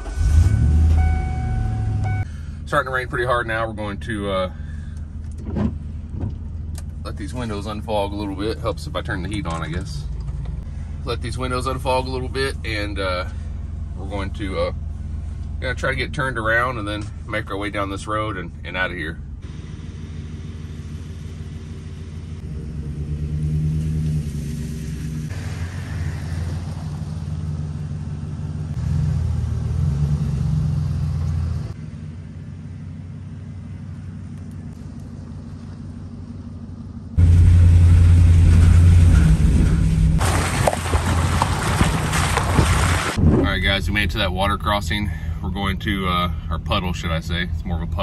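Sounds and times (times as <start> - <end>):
van engine running at low speed: 0.0 - 48.0.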